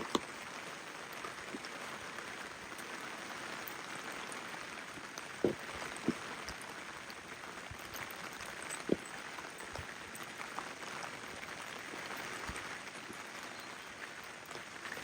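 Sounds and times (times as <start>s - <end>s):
drips and spatters: 0.0s - 15.0s
rain falling: 0.0s - 15.0s.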